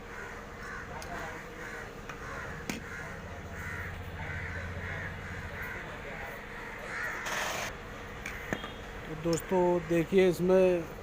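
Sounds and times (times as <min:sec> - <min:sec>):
crows cawing: 0:00.0 - 0:10.5.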